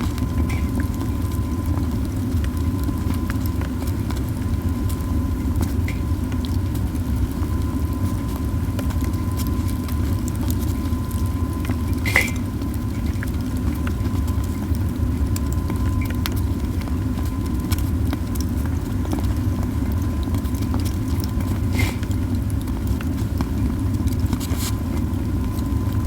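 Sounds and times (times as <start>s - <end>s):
campfire flame rushing: 0.0s - 26.0s
fire crackling and popping: 0.0s - 26.0s.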